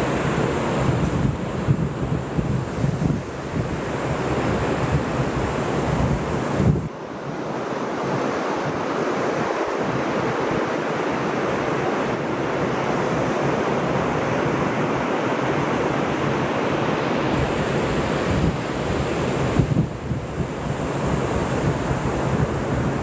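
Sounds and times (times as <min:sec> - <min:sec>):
wind buffeting microphone: 0:00.0 - 0:10.7, 0:12.1 - 0:23.0
ocean surf washing onto beach: 0:00.0 - 0:23.0.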